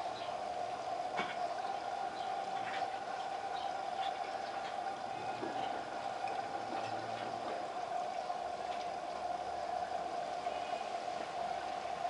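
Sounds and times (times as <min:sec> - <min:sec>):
washing machine hum: 0:00.0 - 0:12.0
water sloshing in washing machine: 0:00.0 - 0:12.0.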